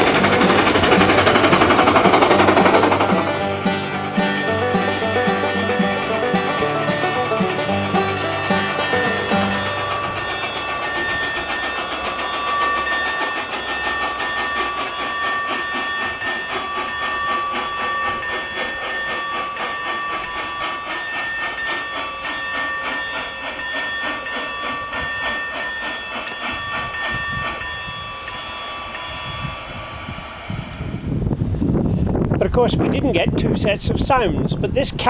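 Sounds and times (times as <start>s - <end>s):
steady high tones: 0.0s - 31.6s
electronic steam locomotive chuffing: 0.0s - 32.3s.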